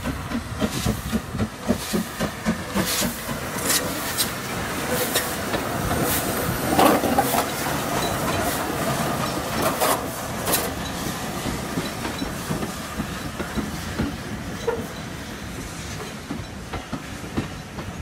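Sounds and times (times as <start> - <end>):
steam hissing: 0.0 - 18.0
train wheels rumbling: 0.0 - 18.0
wheels clanking on rail joints: 0.0 - 18.0.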